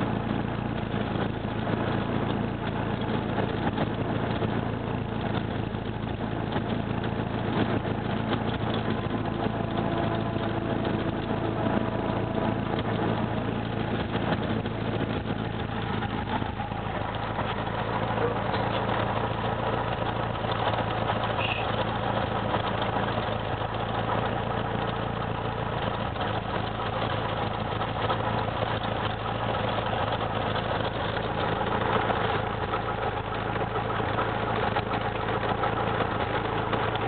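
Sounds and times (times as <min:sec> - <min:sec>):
propeller aircraft engine drone: 0:00.0 - 0:37.0.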